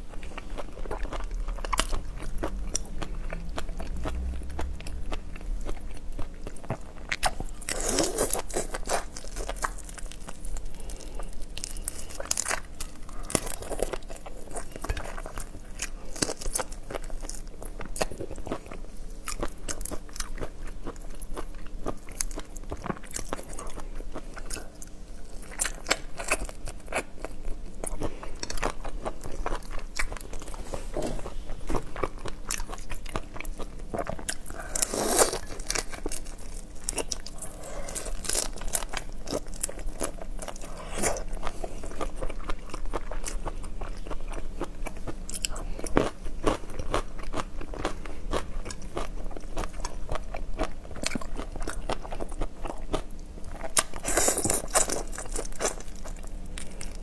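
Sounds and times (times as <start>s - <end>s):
crunching and chewing shrimp: 0.0s - 57.0s.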